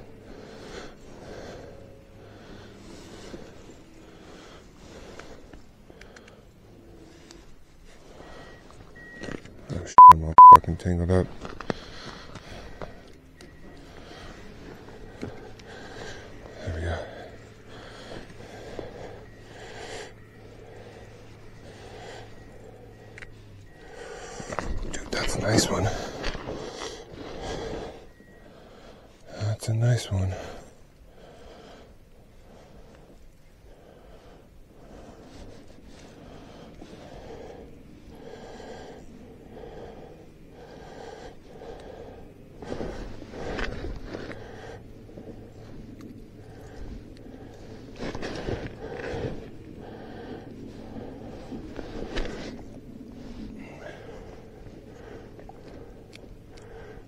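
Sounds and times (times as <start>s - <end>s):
person breathing hard: 0.0s - 9.0s, 11.5s - 29.4s, 30.2s - 57.0s.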